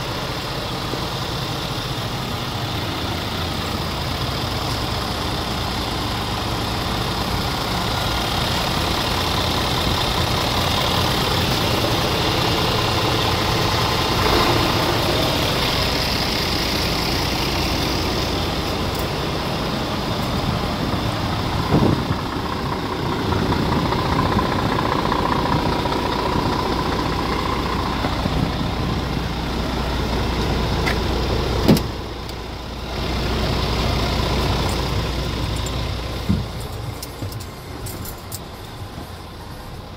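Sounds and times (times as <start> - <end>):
diesel truck idling: 0.0 - 39.9.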